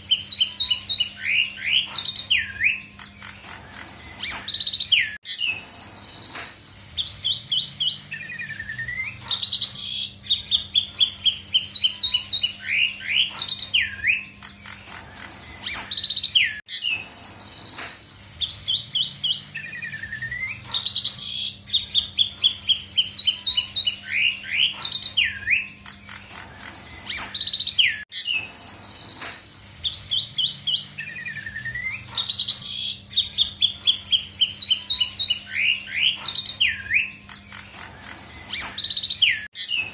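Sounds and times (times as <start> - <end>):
starling singing whistled notes: 0.0 - 39.9.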